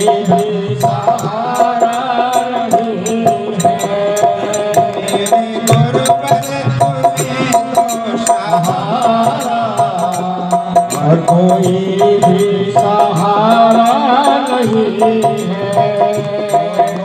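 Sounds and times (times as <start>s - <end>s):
hand percussion beat: 0.0s - 17.0s
man singing devotional song: 0.0s - 17.0s.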